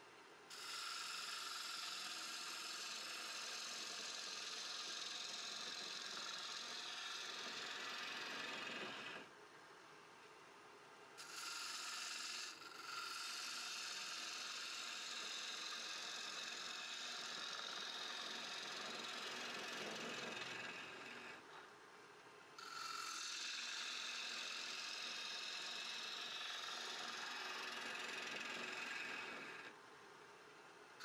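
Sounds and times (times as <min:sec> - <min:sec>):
gouge cutting wood on a lathe: 0:00.5 - 0:09.3, 0:11.2 - 0:21.5, 0:22.6 - 0:29.8.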